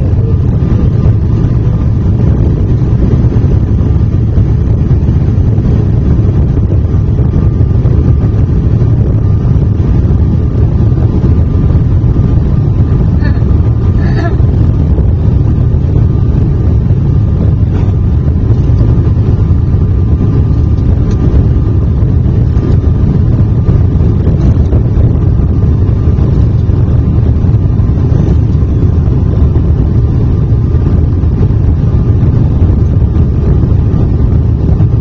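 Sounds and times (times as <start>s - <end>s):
airliner engines rumbling: 0.0s - 35.0s
faint steady whine: 0.0s - 35.0s.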